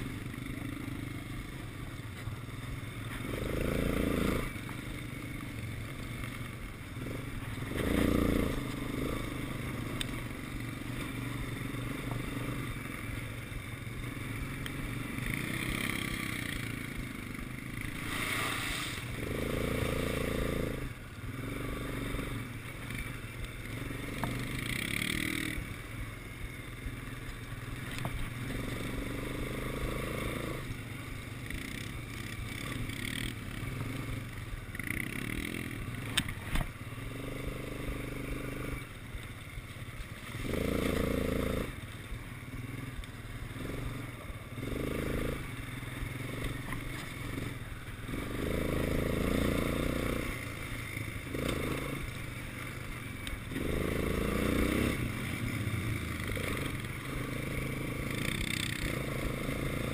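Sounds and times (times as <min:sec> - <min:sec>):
quad bike engine revving: 0:00.0 - 0:39.2, 0:40.2 - 0:59.9.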